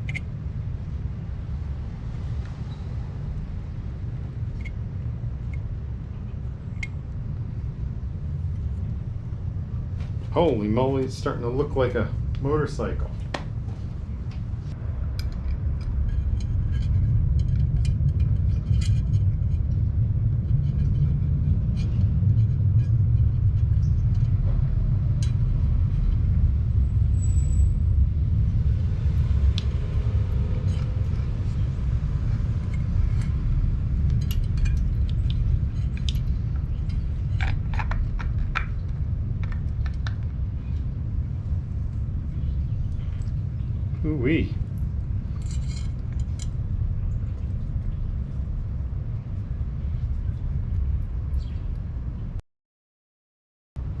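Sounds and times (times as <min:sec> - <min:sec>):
low rumble: 0:00.0 - 0:52.4.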